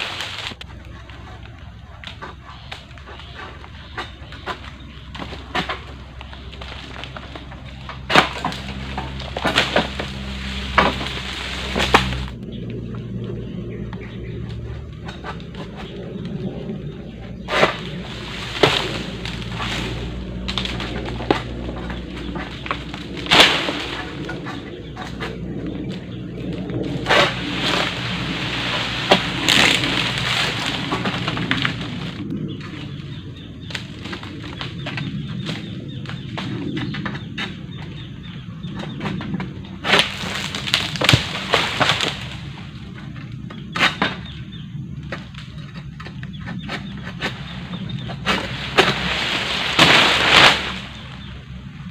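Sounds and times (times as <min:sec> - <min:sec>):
sickle cracking through stalks: 0:00.0 - 0:12.8, 0:17.4 - 0:37.6, 0:38.8 - 0:44.3, 0:45.0 - 0:51.9
dry palm fronds rustling: 0:00.0 - 0:51.9.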